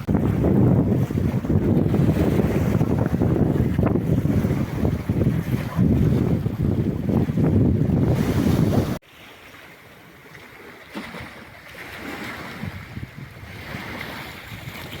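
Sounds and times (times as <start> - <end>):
wind buffeting microphone: 0.0 - 9.0, 11.9 - 15.0
sea surf: 0.0 - 15.0.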